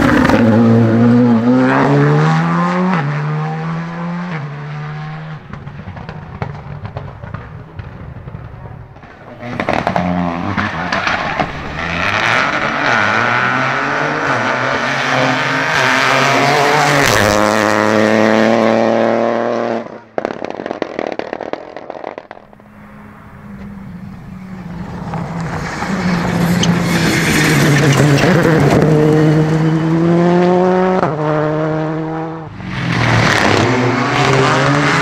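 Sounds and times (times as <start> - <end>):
rally car engine accelerating: 0.0 - 20.0, 22.4 - 35.0
rally car approaching: 0.0 - 20.3, 21.8 - 35.0.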